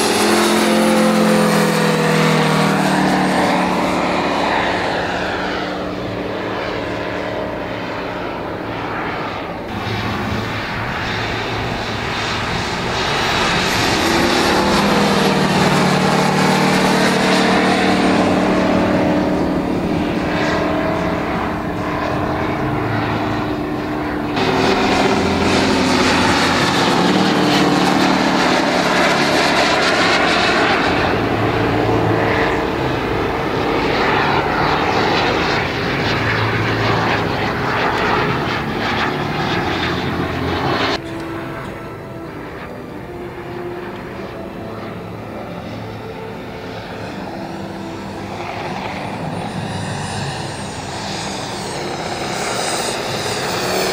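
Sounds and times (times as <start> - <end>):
model aircraft engine flying overhead: 0.0 - 53.9.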